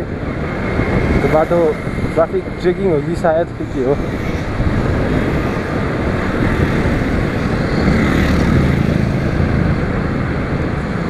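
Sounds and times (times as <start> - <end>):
wind rush over microphone: 0.0 - 11.0.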